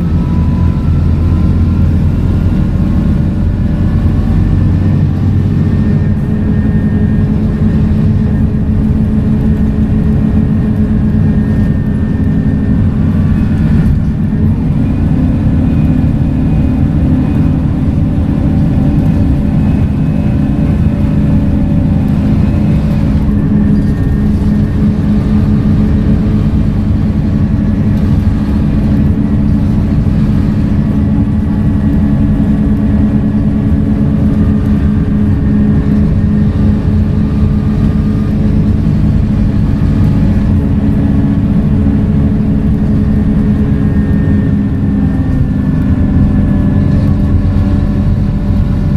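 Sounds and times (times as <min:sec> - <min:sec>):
bus diesel engine humming: 0:00.0 - 0:48.9.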